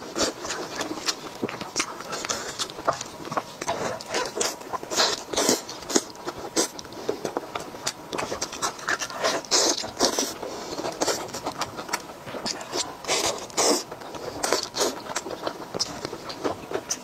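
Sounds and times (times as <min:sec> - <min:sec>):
wet chewing and lip-smacking: 0:00.0 - 0:17.0.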